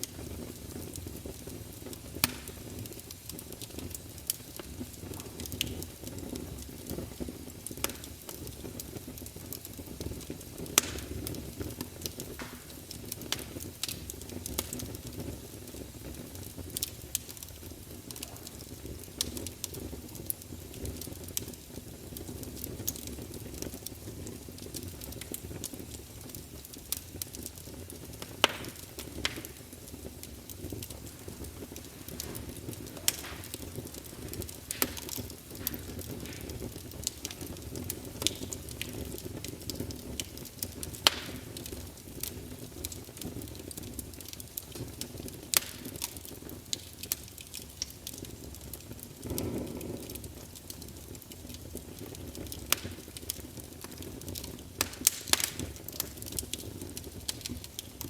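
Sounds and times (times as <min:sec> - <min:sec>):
campfire flames rumbling: 0:00.0 - 0:58.0
fire pops and crackles: 0:00.0 - 0:58.0
loud fire snaps: 0:00.0 - 0:58.0.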